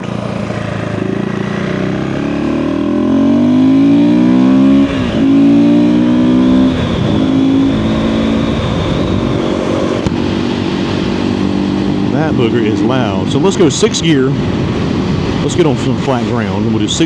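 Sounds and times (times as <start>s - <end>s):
motorcycle engine accelerating: 0.0s - 16.4s.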